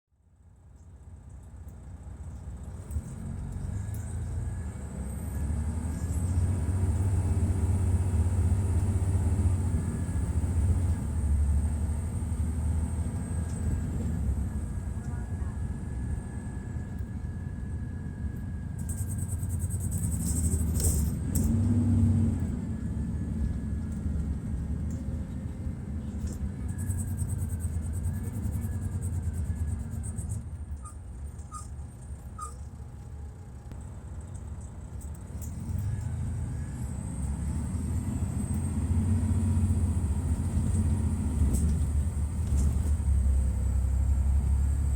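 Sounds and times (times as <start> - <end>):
diesel engine rumbling: 0.3 - 44.9.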